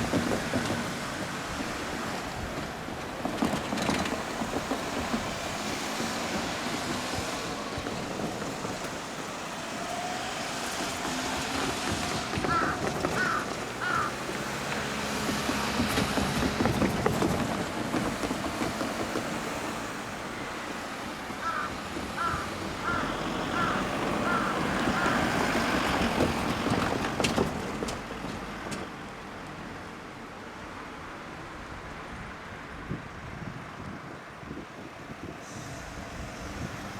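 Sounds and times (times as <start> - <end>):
vehicles passing: 0.0 - 36.9.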